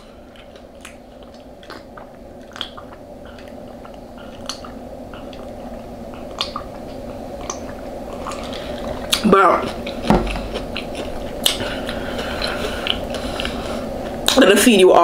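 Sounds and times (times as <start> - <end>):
wet chewing: 0.0 - 13.6
low background hum: 0.0 - 15.0.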